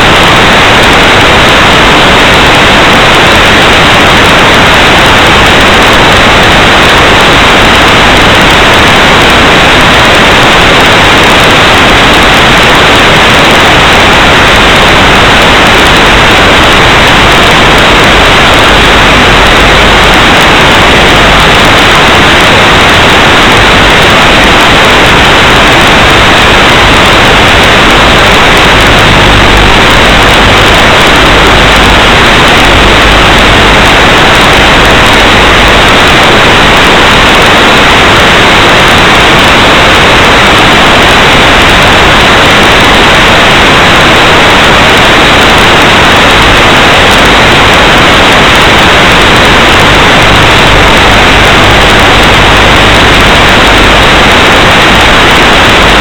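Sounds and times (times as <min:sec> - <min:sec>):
static hiss: 0:00.0 - 0:56.0.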